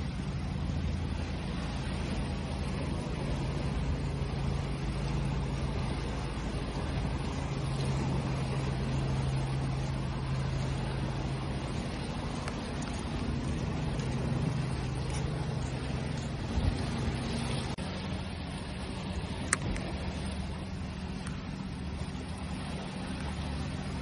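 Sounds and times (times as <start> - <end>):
low motor-like hum: 0.0 - 24.0
sea waves washing: 0.0 - 24.0.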